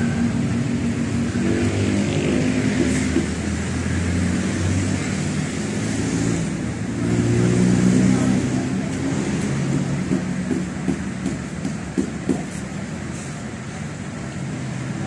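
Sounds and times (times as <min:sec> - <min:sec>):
traffic noise: 0:00.0 - 0:15.0
vehicle engine humming: 0:00.0 - 0:15.0.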